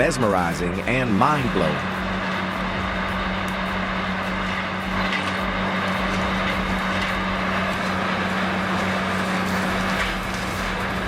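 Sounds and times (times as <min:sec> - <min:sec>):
heavy machine engine drone: 0:00.0 - 0:11.0.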